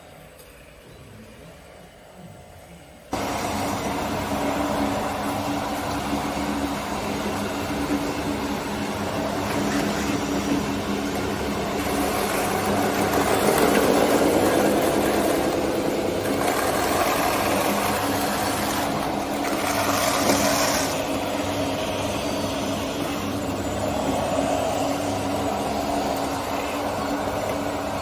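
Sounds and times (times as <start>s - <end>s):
small motors whining: 0.0s - 28.0s.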